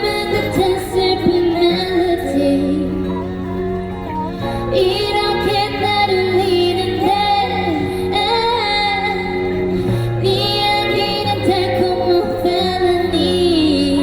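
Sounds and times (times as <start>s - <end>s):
recorded backing track: 0.0s - 14.0s
woman singing pop ballad: 0.0s - 14.0s.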